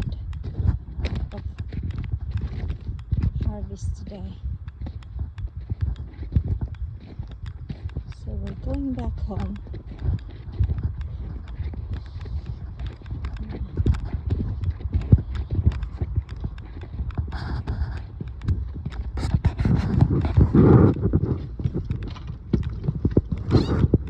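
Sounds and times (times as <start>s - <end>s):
footsteps in snow: 0.0s - 24.0s.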